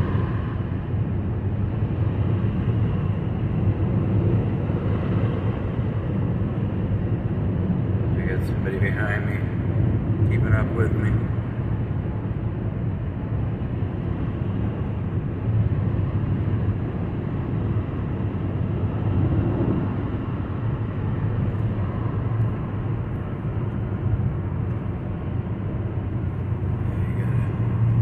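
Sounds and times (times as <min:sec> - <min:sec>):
car cruising road and engine drone: 0:00.0 - 0:28.0.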